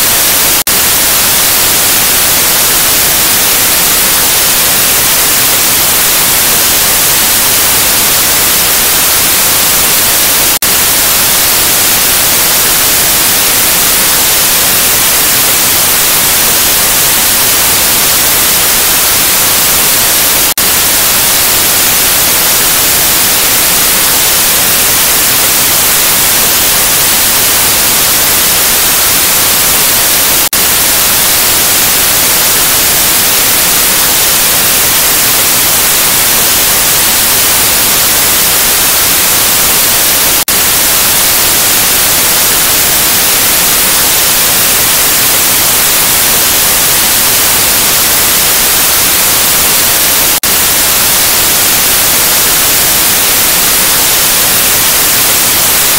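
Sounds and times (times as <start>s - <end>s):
television static hiss: 0.0s - 55.9s.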